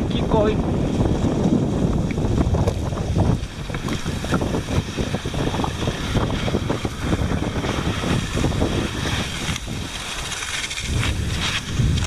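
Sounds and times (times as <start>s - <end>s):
wind buffeting microphone: 0.0s - 12.0s
skis scraping on snow: 0.2s - 12.0s.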